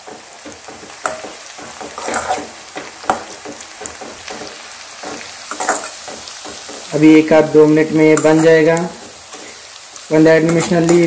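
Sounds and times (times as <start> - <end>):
metal spoon scraping a pan: 0.0 - 11.0
noodles sizzling: 0.0 - 11.0.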